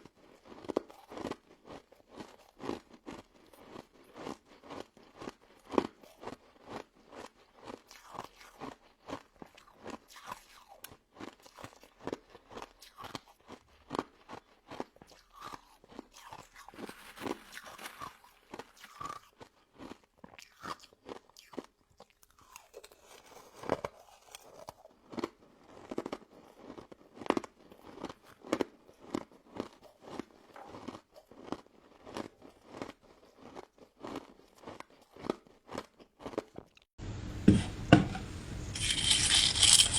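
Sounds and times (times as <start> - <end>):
crunchy chewing: 0.0 - 36.9, 38.8 - 39.9.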